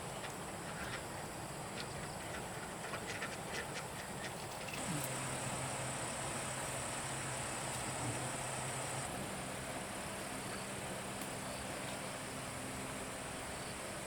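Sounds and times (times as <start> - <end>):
faint low hum: 0.0 - 14.0
outdoor hiss: 0.0 - 14.0.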